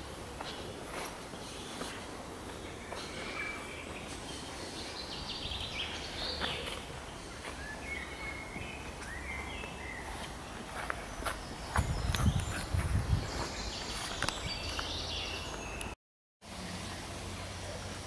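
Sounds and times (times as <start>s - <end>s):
songbirds singing: 0.0s - 16.0s
outdoor background noise: 0.0s - 18.0s.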